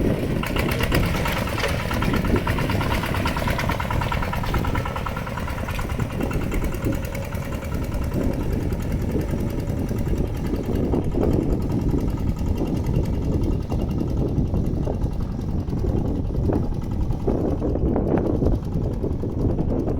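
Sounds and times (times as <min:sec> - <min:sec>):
mini tractor engine running: 0:00.0 - 0:19.9.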